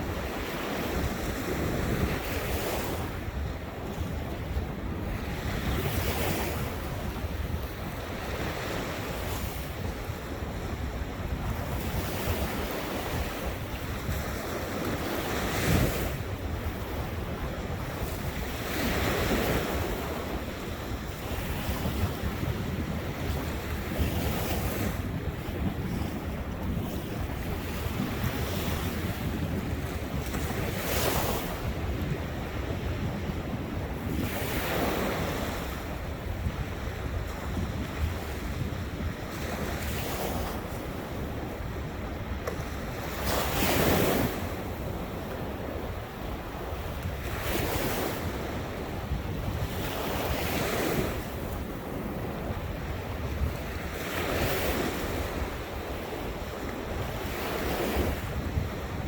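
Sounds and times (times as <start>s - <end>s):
waves breaking: 0.0s - 59.0s
wind on microphone: 0.0s - 59.0s.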